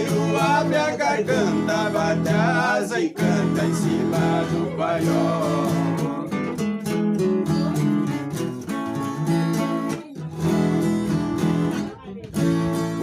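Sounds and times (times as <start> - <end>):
plucked strings accompaniment: 0.0 - 13.0
strummed acoustic guitar: 0.0 - 13.0.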